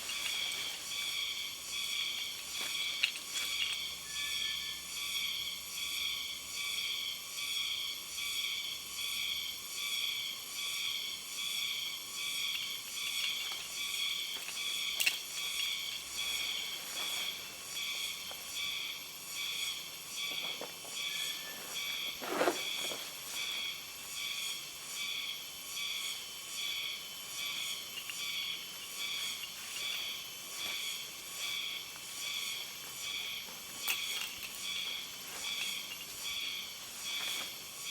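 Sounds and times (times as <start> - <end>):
insects calling: 0.0 - 37.9.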